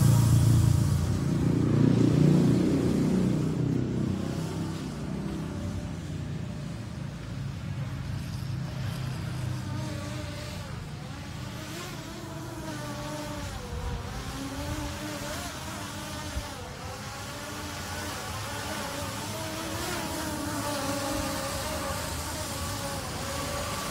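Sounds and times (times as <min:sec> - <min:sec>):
drone propellers buzzing: 0:00.0 - 0:23.9.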